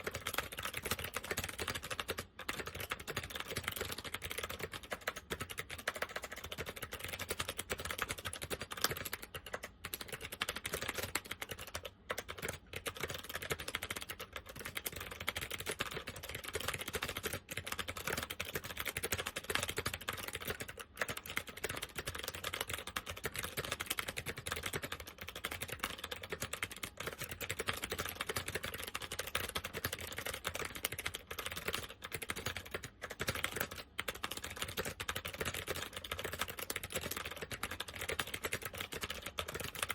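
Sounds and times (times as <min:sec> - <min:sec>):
fast typing on clicky keyboard: 0:00.0 - 0:39.9.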